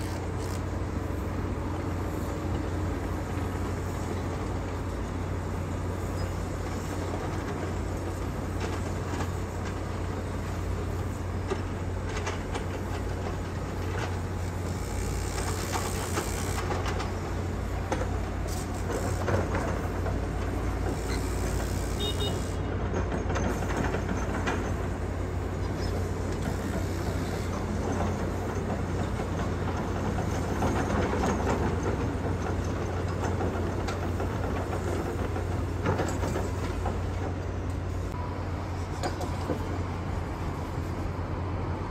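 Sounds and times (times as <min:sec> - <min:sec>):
vehicles or machinery rumbling: 0:00.0 - 0:41.9.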